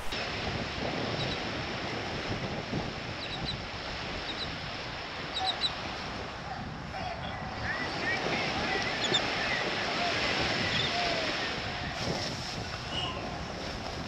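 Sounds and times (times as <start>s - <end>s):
surf on a beach: 0.0s - 14.0s
wind: 0.0s - 14.0s.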